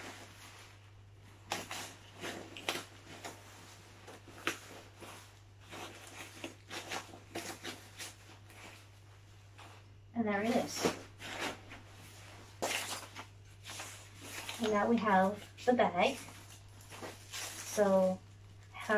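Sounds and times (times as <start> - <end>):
low steady hum: 0.0 - 18.9
tent fabric rustling and crinkling: 0.0 - 18.9.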